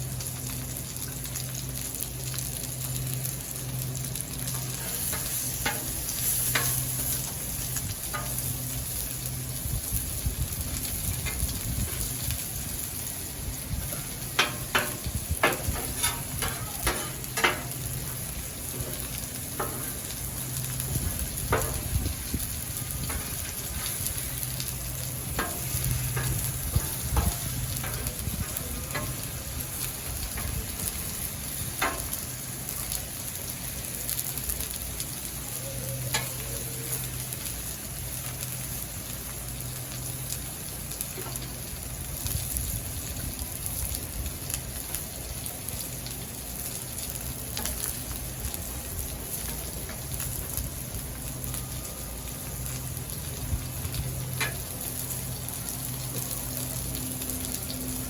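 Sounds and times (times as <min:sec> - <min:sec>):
sizzling on a griddle: 0:00.0 - 0:58.0.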